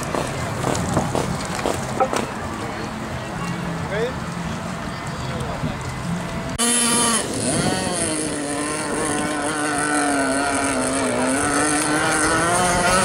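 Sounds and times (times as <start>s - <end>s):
high-pitched boat engine whine: 0.0s - 13.0s.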